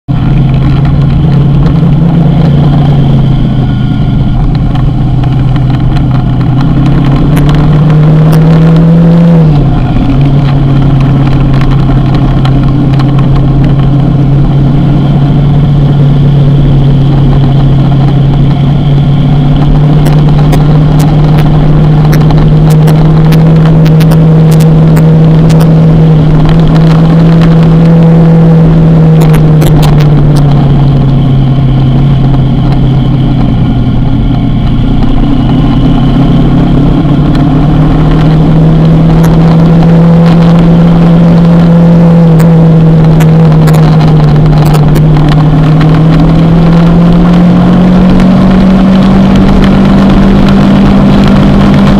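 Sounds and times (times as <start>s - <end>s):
motorcycle engine revving: 0.1s - 51.9s.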